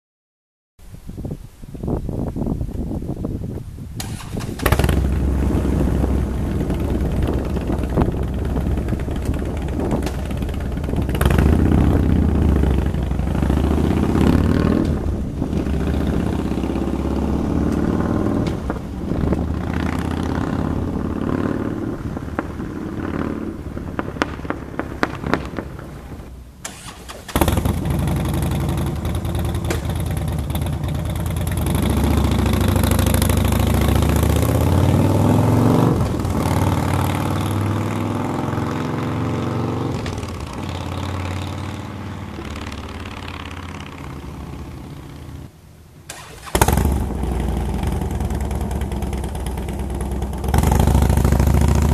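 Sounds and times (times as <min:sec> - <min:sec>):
motorcycle engine idling and revving: 0:04.0 - 0:51.9.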